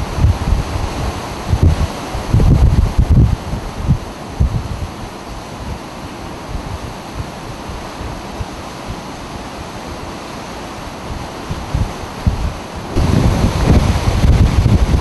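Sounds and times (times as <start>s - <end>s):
hurricane wind with heavy rain: 0.0s - 15.0s
wind buffeting microphone: 0.0s - 15.0s.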